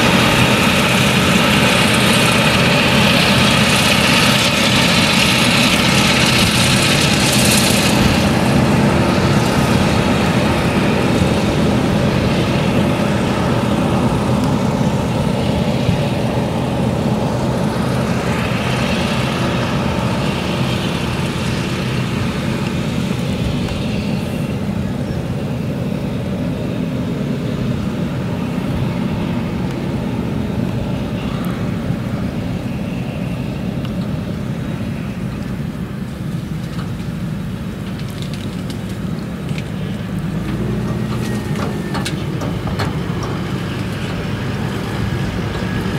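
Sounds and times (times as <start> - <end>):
heavy machine din: 0.0 - 45.9.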